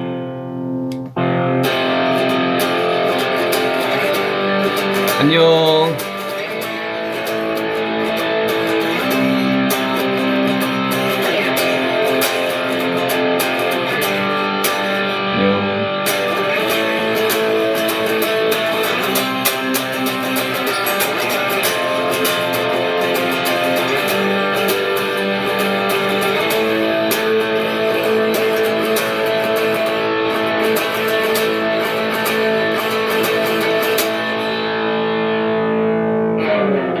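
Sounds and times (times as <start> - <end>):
guitar chords: 0.0 - 37.0.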